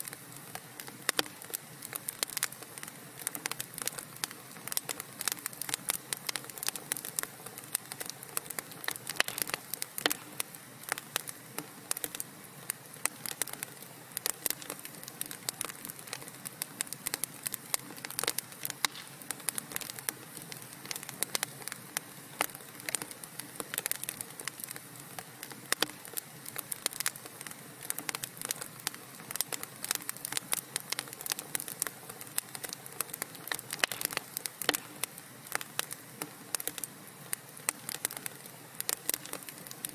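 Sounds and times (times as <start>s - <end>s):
fire hiss: 0.0s - 39.9s
wood fire crackling and popping: 0.0s - 39.9s.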